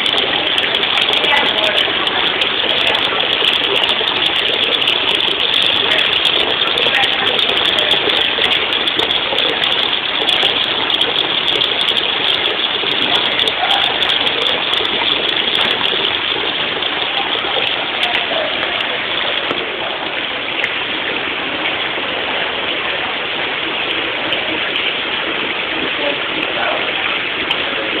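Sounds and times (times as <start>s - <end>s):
water pouring into a tub: 0.0s - 28.0s.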